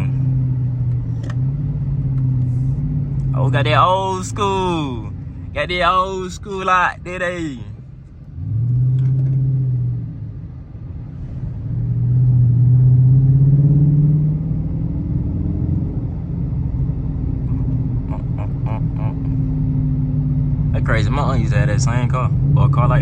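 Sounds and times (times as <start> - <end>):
car engine accelerating: 0.0 - 23.0
low road noise: 0.0 - 23.0.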